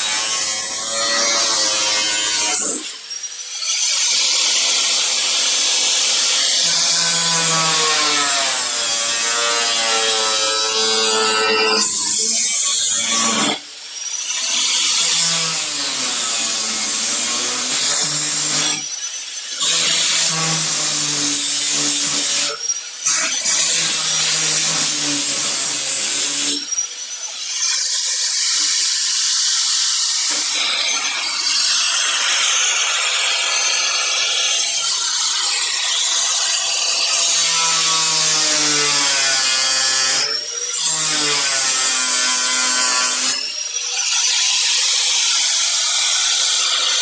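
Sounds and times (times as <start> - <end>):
power tool cutting sheet metal: 0.0 - 47.0.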